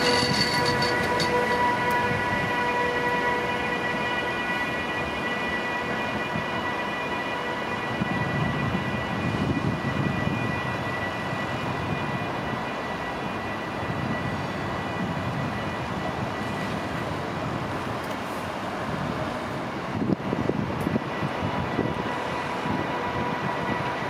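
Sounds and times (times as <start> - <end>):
electric locomotive whine: 0.0 - 24.0
wheels rumbling on rails: 0.0 - 24.0.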